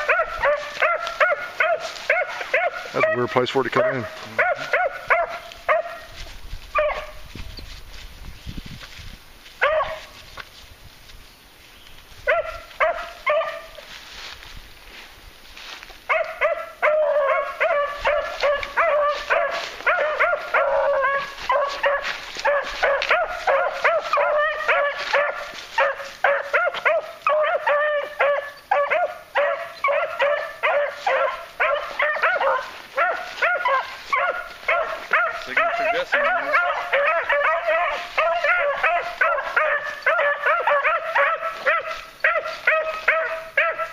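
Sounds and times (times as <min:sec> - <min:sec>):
dogs barking rapidly: 0:00.0 - 0:07.3, 0:09.6 - 0:10.2, 0:12.2 - 0:13.8, 0:16.1 - 0:43.9.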